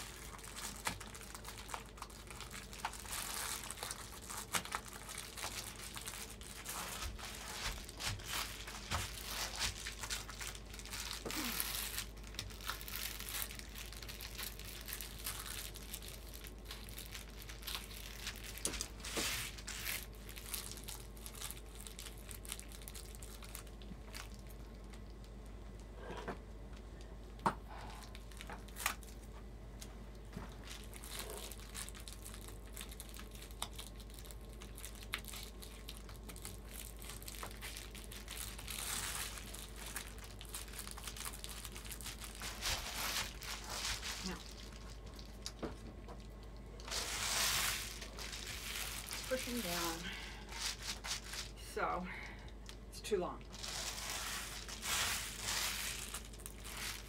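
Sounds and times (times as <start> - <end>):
foil bubble insulation crinkling: 0.0 - 25.6, 27.0 - 57.0.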